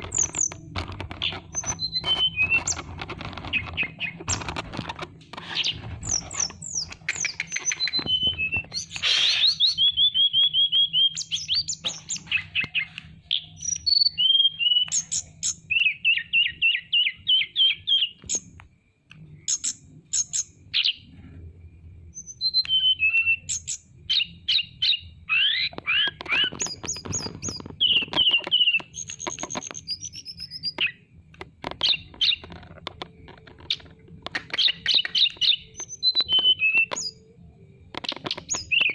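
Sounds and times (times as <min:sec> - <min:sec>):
songbird chirping and trilling: 0:00.0 - 0:21.2, 0:22.1 - 0:38.9
faint low hum: 0:00.0 - 0:38.9.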